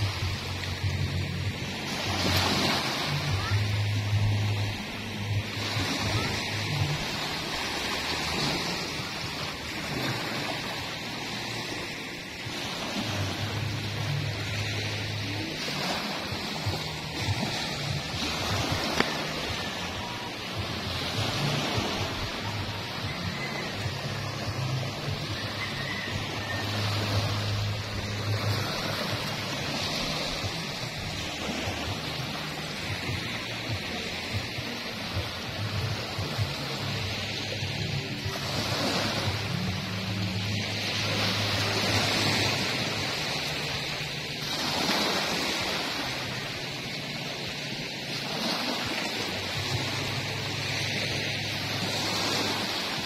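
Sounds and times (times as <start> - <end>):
small waves breaking on sand: 0.0 - 53.0.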